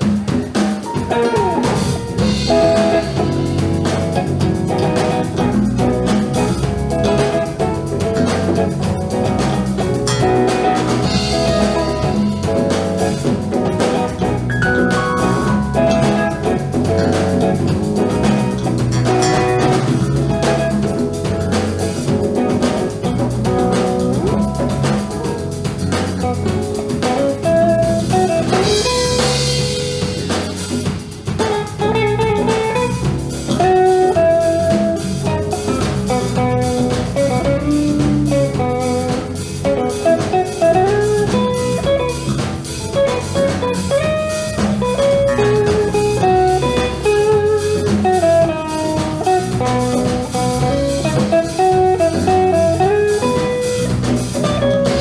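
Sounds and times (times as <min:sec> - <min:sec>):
bass guitar: 0:00.0 - 0:55.0
congas: 0:00.0 - 0:55.0
electric guitar: 0:00.0 - 0:55.0
keyboard: 0:00.0 - 0:55.0
steady drum beat: 0:00.0 - 0:55.0.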